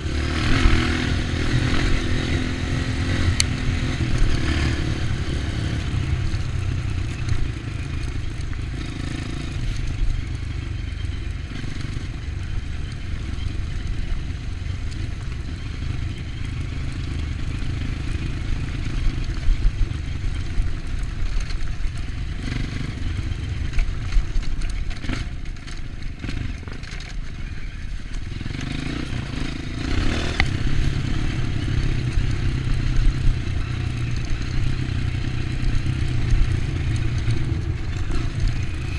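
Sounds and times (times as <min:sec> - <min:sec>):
dirt bike engine: 0:00.0 - 0:38.9.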